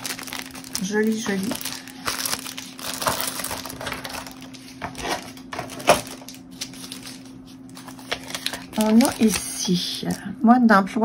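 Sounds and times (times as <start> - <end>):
plastic wrapping rustling: 0.0 - 10.2.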